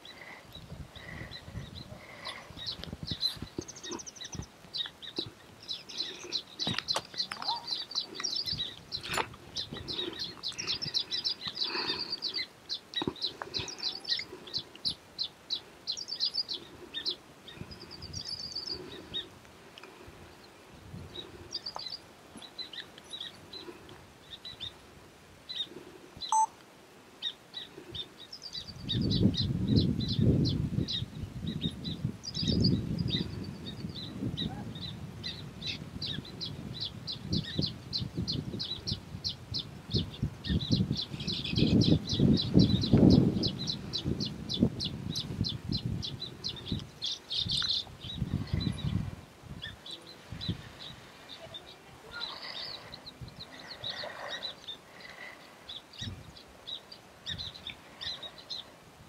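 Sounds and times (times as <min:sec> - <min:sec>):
birds chirping and trilling: 0:00.0 - 0:24.8, 0:25.4 - 0:26.6, 0:27.2 - 0:58.8.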